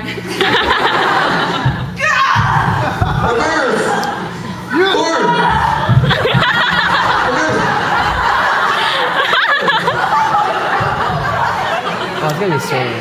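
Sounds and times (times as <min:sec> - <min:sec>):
audience laughing: 0:00.0 - 0:02.0, 0:02.7 - 0:13.0.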